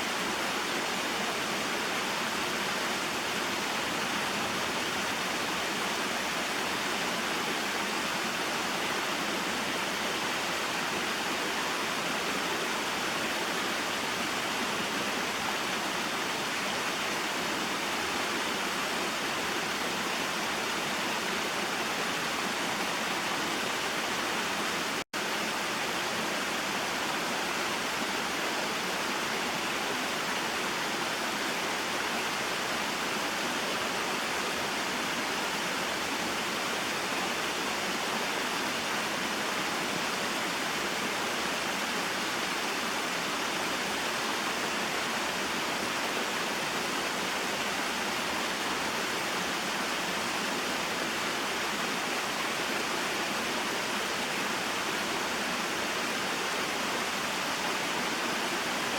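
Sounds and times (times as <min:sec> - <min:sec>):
waterfall and stream rushing: 0:00.0 - 0:58.9.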